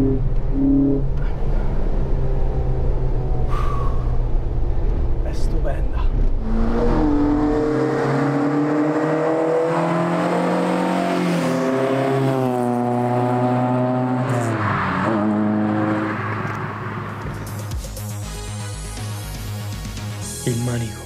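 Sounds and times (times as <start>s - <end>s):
car engine passing at speed: 0.0s - 5.3s, 6.0s - 17.6s.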